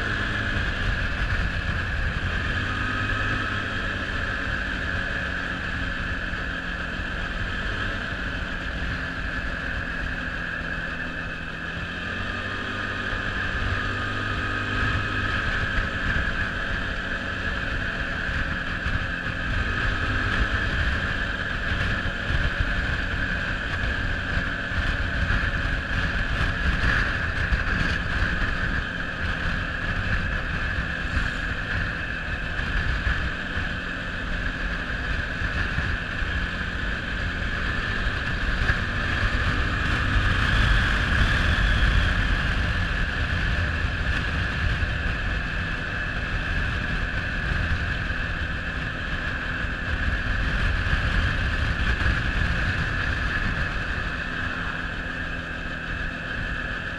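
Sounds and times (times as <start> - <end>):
quad bike engine running: 0.0 - 56.9.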